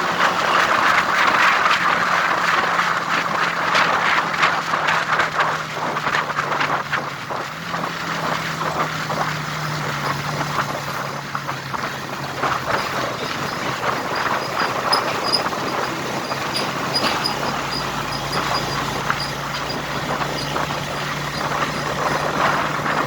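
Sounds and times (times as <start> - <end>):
rushing crackling noise: 0.0 - 23.0
vehicle engine running: 0.0 - 23.0.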